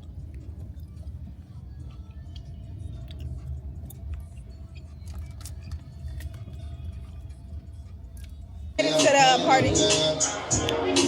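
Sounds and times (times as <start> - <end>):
car road rumble from cabin: 0.0 - 11.0.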